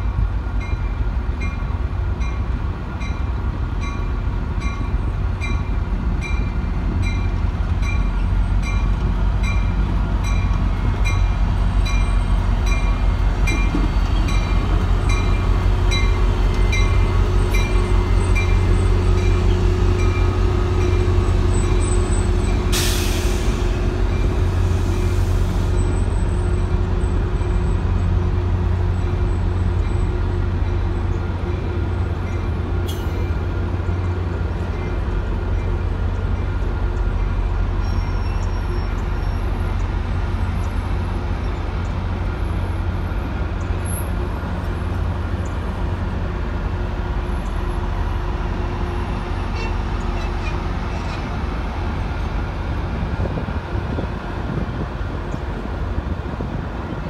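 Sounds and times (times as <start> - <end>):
diesel train engine drone: 0.0 - 57.0.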